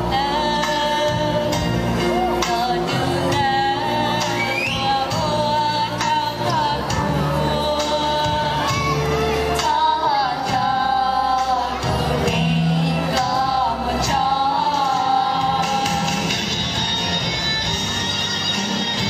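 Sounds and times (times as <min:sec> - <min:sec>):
instrumental backing: 0:00.0 - 0:19.0
person singing pop song: 0:00.0 - 0:19.0.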